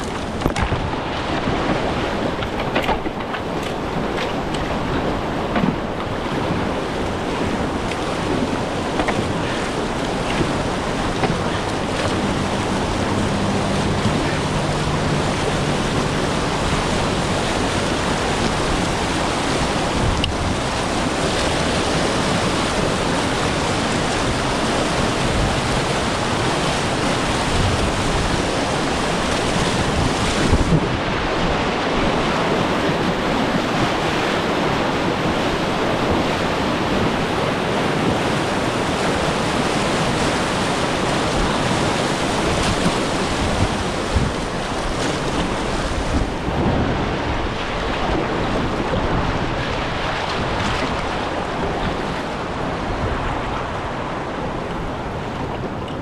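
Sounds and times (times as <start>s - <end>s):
river water rushing: 0.0s - 56.0s
wind noise on microphone: 0.0s - 56.0s.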